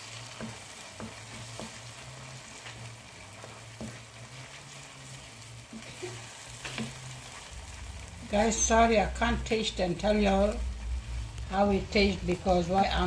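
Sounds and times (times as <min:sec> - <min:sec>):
paste sizzling in a pan: 0:00.0 - 0:13.0.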